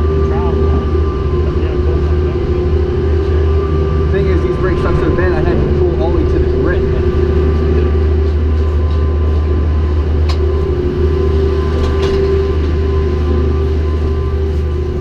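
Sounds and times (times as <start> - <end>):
constant hum: 0.0 - 15.0
low mechanical rumble: 0.0 - 15.0.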